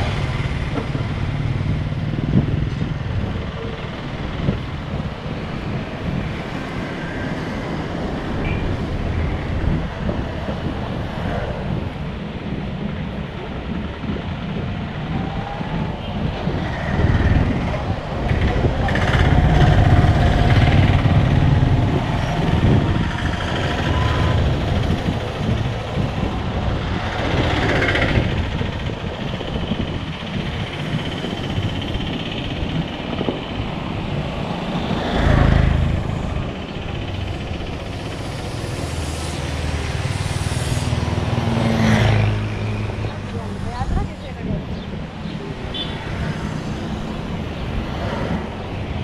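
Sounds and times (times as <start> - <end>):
engine rumble: 0.0 - 49.0
vehicles passing: 0.0 - 49.0.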